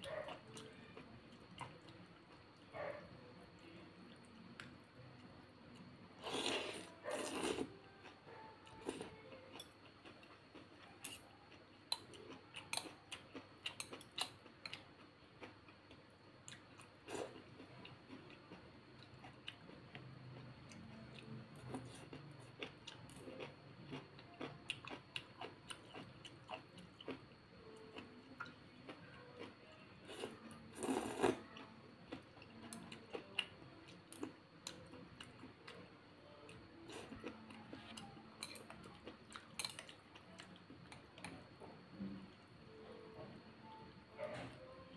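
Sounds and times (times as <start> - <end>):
chewing noodles: 0.0 - 3.0, 5.8 - 41.5.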